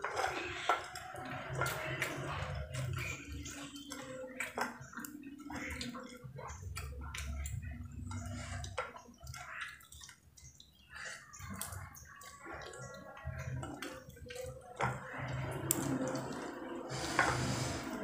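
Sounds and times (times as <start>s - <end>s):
wet mouth sounds and chewing: 0.0s - 18.0s.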